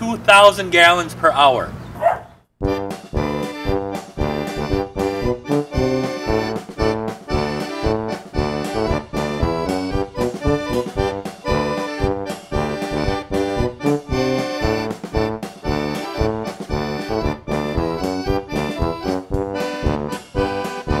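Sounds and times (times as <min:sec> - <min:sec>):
folk-style music with steady beat: 0:02.6 - 0:21.0.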